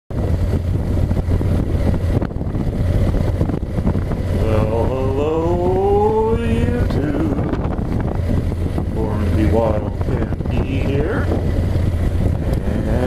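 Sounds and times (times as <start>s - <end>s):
motorcycle engine accelerating: 0.1s - 13.0s
wind rumble on microphone: 0.1s - 13.0s.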